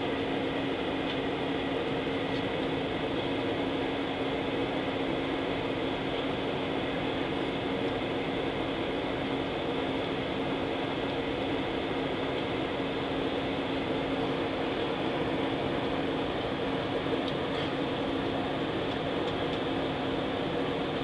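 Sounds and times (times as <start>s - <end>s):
jet airliner cabin noise: 0.0s - 21.0s.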